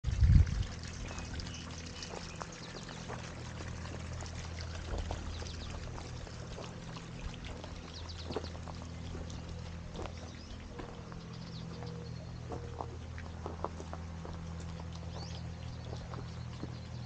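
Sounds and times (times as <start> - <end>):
steady low hum: 0.0 - 17.0
water trickling and splashing: 0.0 - 17.0.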